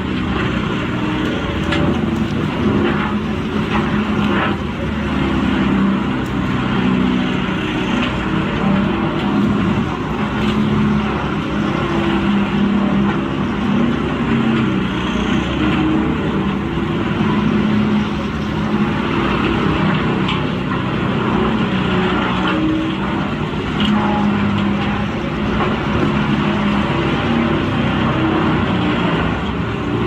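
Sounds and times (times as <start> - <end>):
wood grinder engine hum: 0.0 - 30.0.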